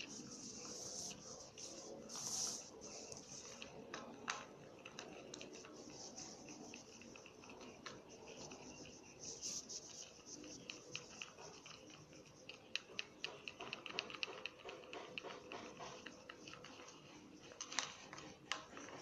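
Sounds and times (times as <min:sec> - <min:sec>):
utensil stirring slime in container: 0:00.0 - 0:19.0.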